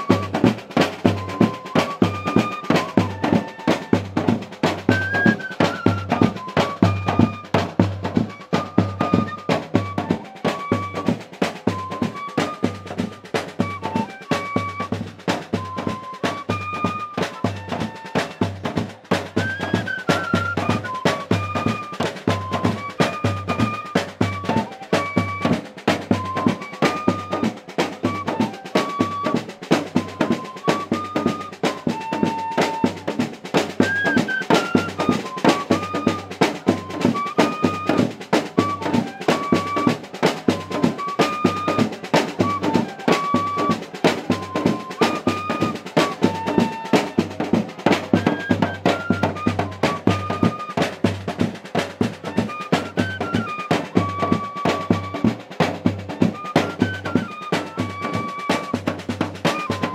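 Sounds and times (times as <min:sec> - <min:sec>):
snare and bass drum beat: 0:00.0 - 0:59.9.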